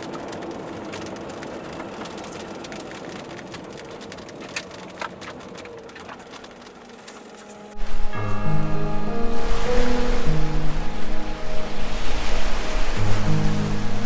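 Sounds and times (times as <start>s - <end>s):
raindrops ticking on windscreen: 0.0s - 14.0s.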